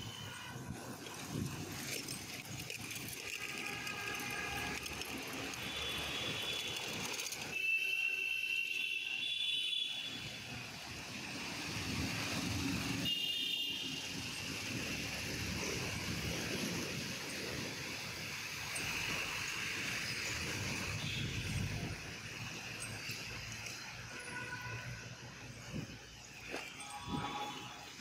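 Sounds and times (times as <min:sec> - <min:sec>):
traffic on wet road: 0:00.0 - 0:28.0.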